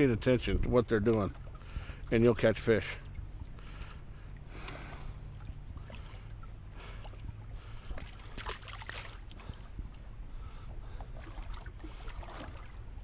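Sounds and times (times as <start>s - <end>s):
low steady hum: 0.0s - 13.0s
waves lapping against boat hull: 0.0s - 13.0s.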